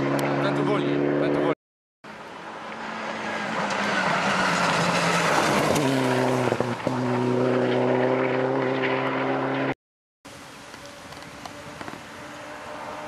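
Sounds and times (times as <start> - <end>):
rally car engine: 0.0 - 9.8, 11.4 - 13.0.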